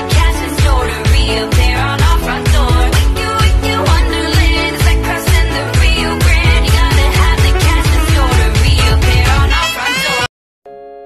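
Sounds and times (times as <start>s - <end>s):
pop song with heavy bass beat: 0.0s - 10.3s.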